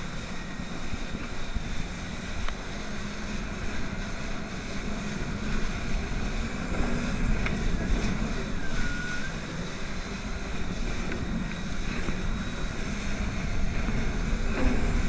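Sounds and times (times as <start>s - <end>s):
jet ski engine rumble: 0.0s - 15.0s
wind buffeting microphone: 0.0s - 15.0s.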